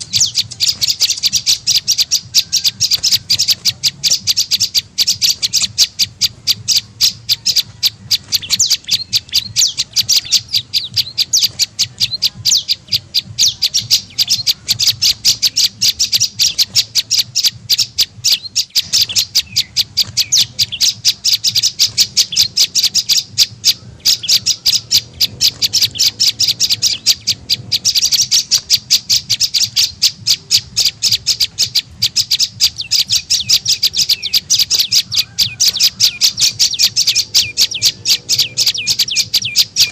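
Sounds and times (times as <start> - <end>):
bird sharp high chirps: 0.0 - 39.9.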